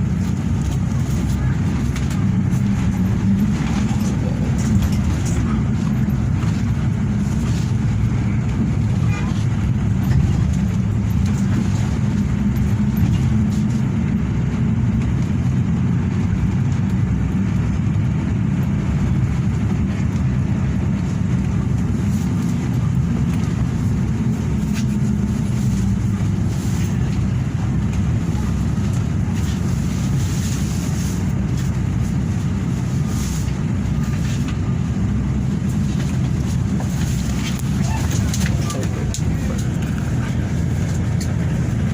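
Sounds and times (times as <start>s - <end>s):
bus engine rumble: 0.0s - 41.9s.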